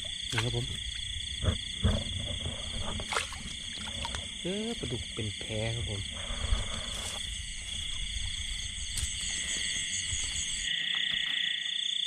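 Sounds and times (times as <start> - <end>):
frogs chirping and trilling: 0.0 - 12.0
insects chirping: 0.0 - 12.0.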